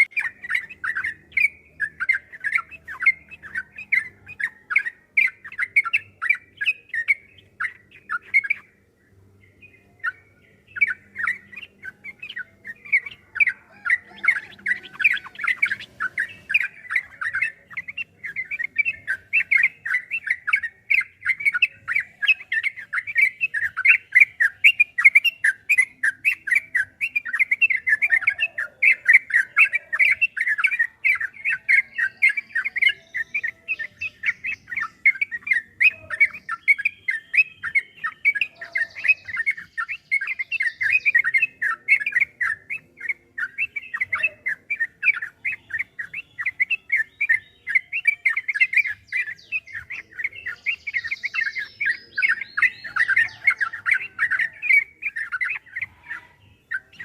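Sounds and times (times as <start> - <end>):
bird singing chattering notes: 0.0 - 57.0.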